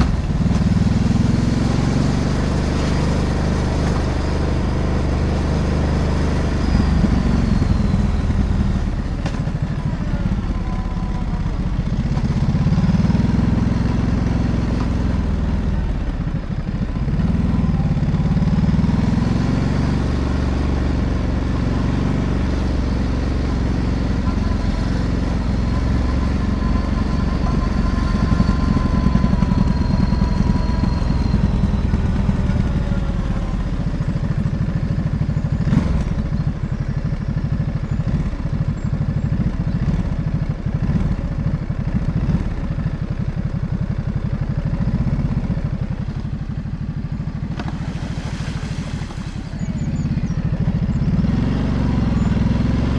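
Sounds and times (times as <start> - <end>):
motorcycle engine revving: 0.0 - 52.9
road and wind noise: 0.0 - 52.9.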